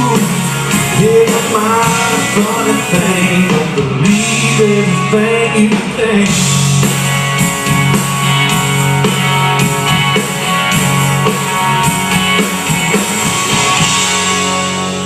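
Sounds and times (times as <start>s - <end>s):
rock band guitar and drums: 0.0s - 15.0s.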